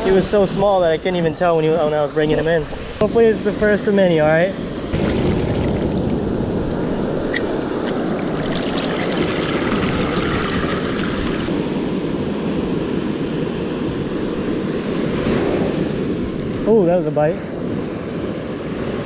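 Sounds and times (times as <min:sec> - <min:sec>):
surf washing over sand: 0:00.0 - 0:19.0
wind buffeting microphone: 0:00.0 - 0:19.0.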